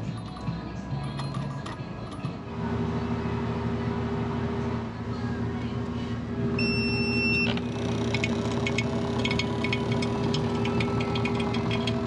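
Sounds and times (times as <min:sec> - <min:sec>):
vacuum pump humming: 0:02.3 - 0:12.0.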